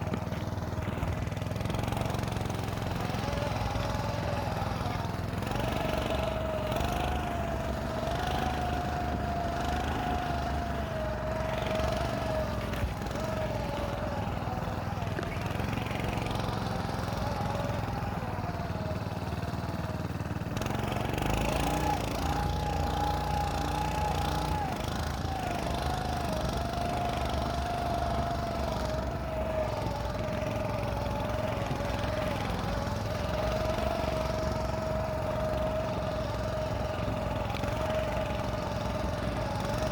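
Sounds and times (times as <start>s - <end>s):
snow scooter engine whining: 0.0s - 39.9s.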